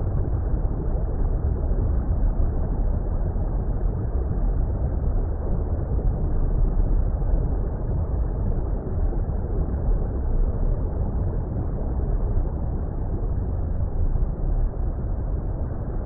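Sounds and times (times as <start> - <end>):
deep water rumble: 0.0 - 16.0.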